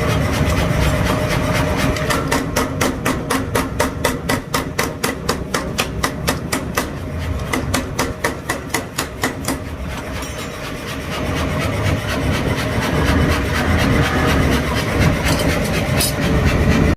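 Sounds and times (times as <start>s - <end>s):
power hammer striking steel: 0.0s - 14.1s
low hum of machine drive: 0.0s - 16.9s.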